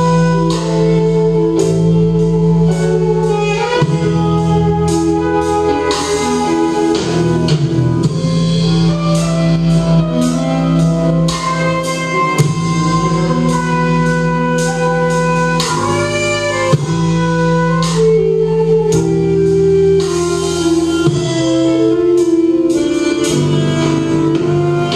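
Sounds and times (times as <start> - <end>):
drum kit: 0.0 - 24.9
guitar: 0.0 - 24.9
live rock band: 0.0 - 24.9.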